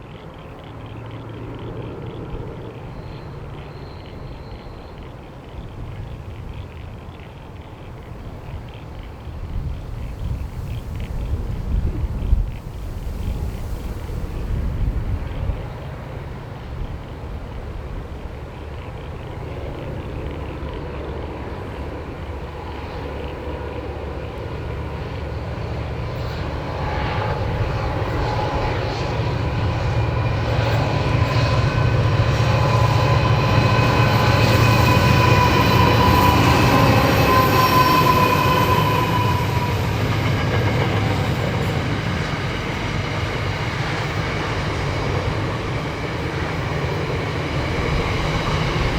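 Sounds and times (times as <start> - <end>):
diesel train passing: 0.0 - 48.9.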